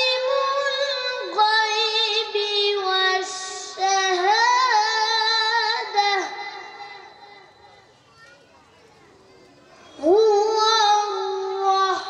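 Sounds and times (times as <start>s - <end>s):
boy chanting melodically: 0.0s - 7.9s, 9.8s - 12.0s.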